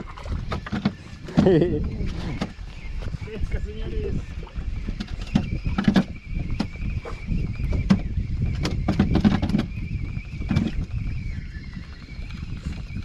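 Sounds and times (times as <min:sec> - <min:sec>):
knocks and clatter on a boat: 0:00.0 - 0:11.2
water noise: 0:00.0 - 0:13.0
wind: 0:00.0 - 0:13.0.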